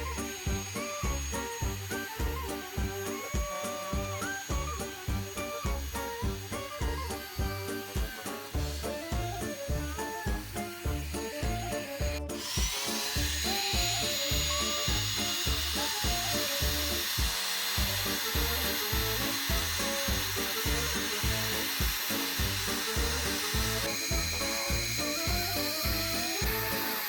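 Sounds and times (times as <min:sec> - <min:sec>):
background music with steady beat: 0:00.0 - 0:27.0
power drill whining: 0:00.0 - 0:27.0.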